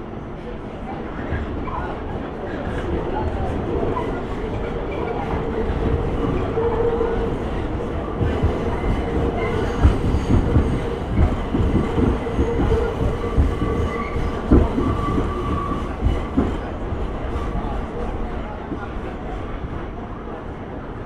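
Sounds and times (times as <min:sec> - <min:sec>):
train rumble and hum: 0:00.0 - 0:21.0.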